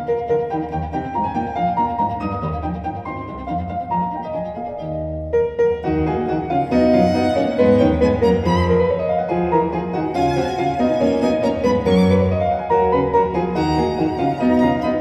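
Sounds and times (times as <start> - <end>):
piano: 0.0 - 15.0
violin: 0.0 - 15.0.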